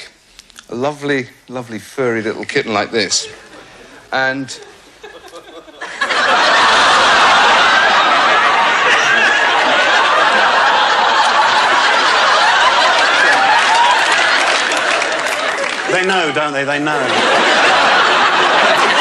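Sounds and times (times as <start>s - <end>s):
studio audience laughing: 3.2s - 19.0s.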